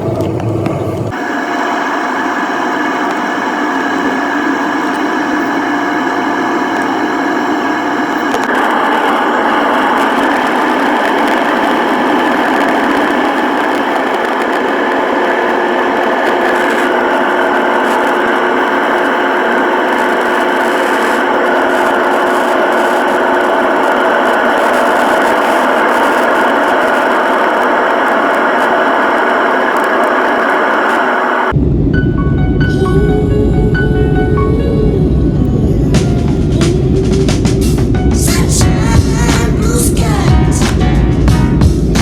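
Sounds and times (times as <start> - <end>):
airliner cabin engine noise: 0.0 - 42.0.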